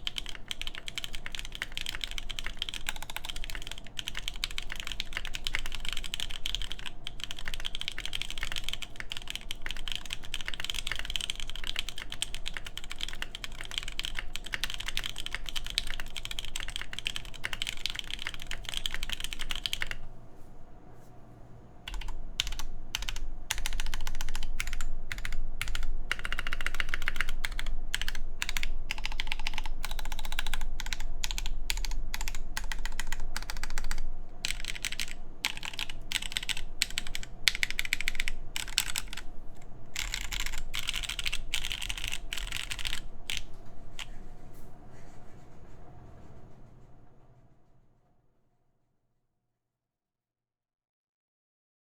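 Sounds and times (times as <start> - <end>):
mechanical keyboard typing: 0.0 - 20.1, 21.9 - 44.2.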